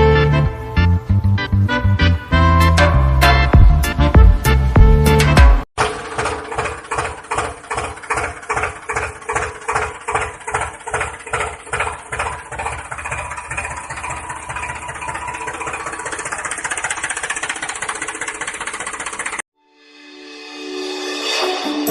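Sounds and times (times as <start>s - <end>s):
tractor engine running: 0.0s - 19.4s.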